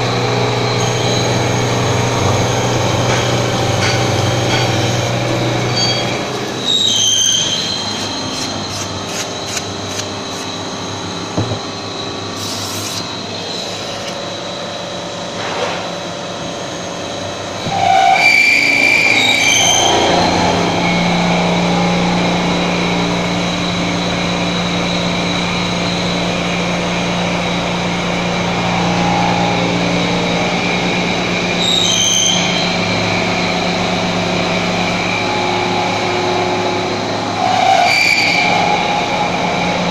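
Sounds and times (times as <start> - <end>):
grinding machine drone with squealing: 0.0 - 39.9
low workshop machine hum: 0.0 - 39.9.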